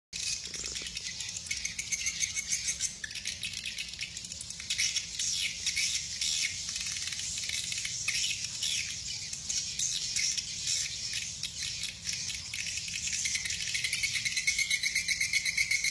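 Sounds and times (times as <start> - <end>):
swiftlets twittering and clicking: 0.2 - 15.9.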